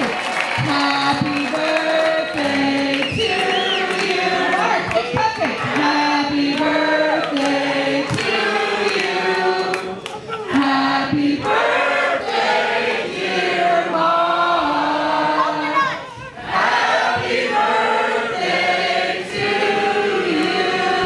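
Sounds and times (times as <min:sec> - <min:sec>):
crowd singing together: 0:00.0 - 0:21.0.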